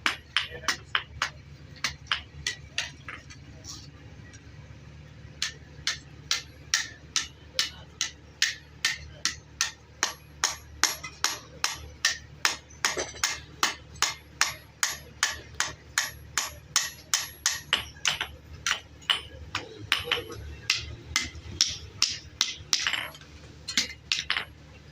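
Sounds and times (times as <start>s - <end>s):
hammer striking: 0.0s - 3.4s, 5.4s - 24.5s.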